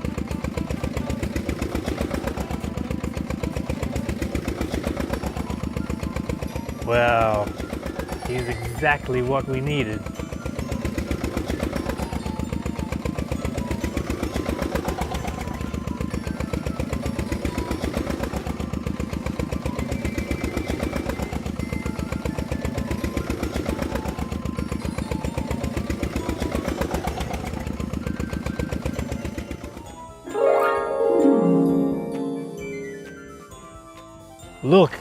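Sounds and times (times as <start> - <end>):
engine chugging steadily: 0.0 - 30.2, 32.4 - 35.0.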